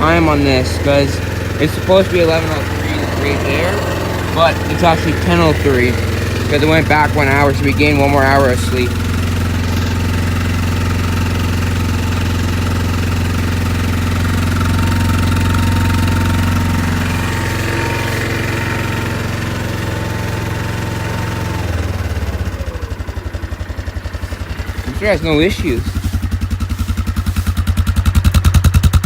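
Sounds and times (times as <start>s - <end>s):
four-stroke engine idling: 0.0s - 29.0s.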